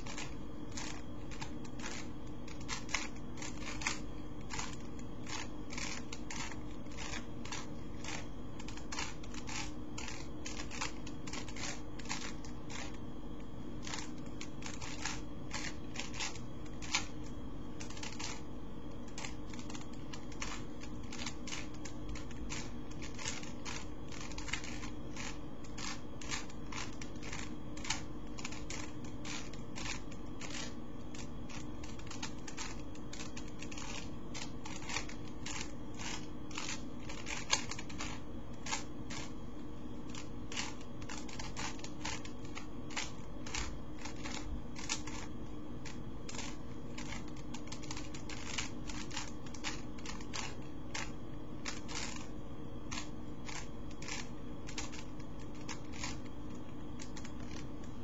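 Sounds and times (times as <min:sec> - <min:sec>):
puzzle cube clicking as turned: 0:00.0 - 0:13.0, 0:13.8 - 0:17.2, 0:17.8 - 0:18.4, 0:19.1 - 0:39.3, 0:40.1 - 0:52.3, 0:52.9 - 0:56.3, 0:57.0 - 0:57.6
steady low hum: 0:00.0 - 0:58.0.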